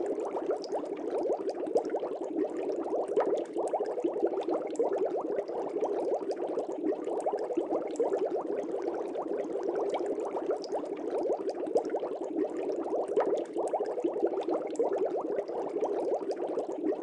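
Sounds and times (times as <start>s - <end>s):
underwater bubbling: 0.0s - 17.0s.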